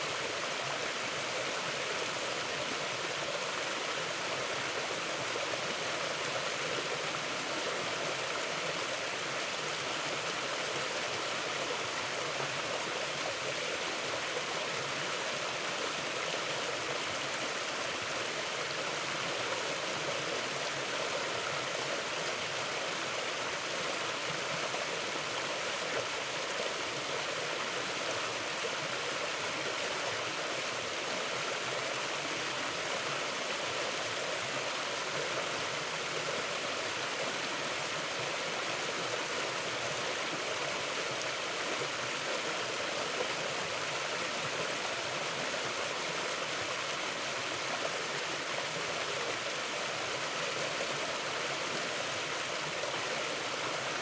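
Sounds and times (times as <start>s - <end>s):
river flowing over rocks: 0.0s - 54.0s.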